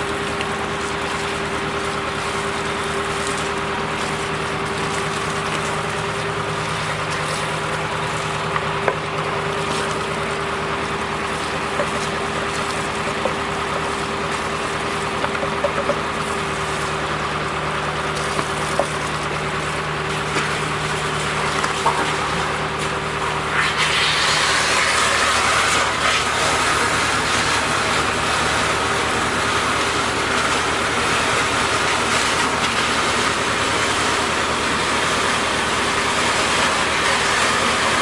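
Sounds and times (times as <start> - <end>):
truck engine and suction pump: 0.0 - 38.0.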